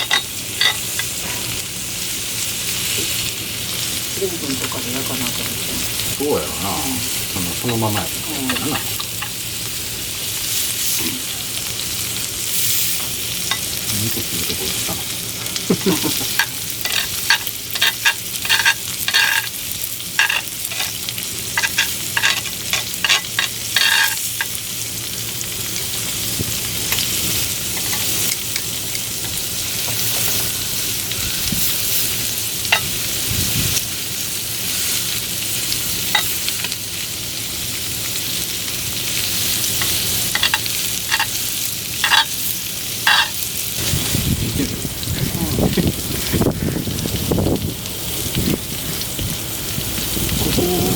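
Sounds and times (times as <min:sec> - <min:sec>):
steak sizzling in a pan: 0:00.0 - 0:50.9.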